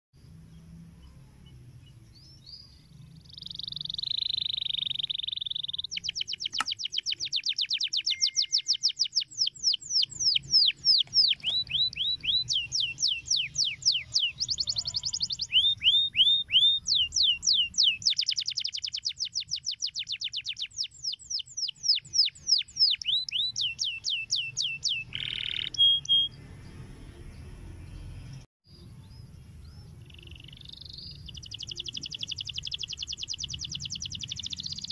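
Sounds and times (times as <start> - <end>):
canary singing: 1.0 - 34.9.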